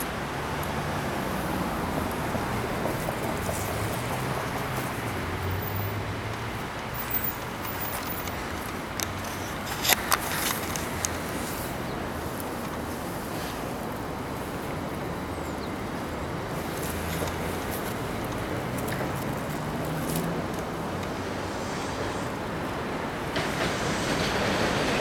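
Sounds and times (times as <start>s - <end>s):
road traffic hum: 0.0s - 25.0s.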